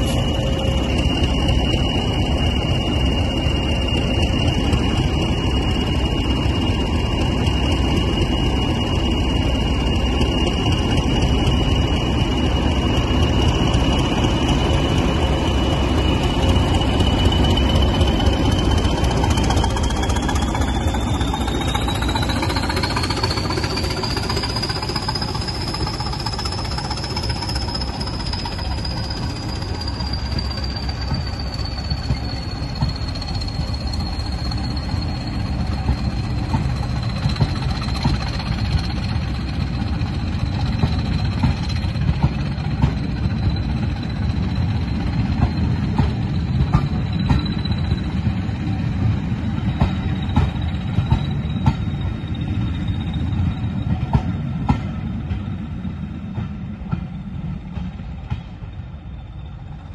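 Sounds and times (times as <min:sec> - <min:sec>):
diesel locomotive engine rumbling: 0:00.0 - 0:59.9
high-pitched whine: 0:00.0 - 0:59.9.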